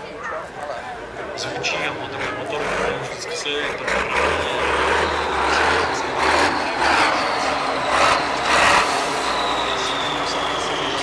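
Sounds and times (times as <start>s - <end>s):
diesel truck engine revving: 0.8s - 11.0s.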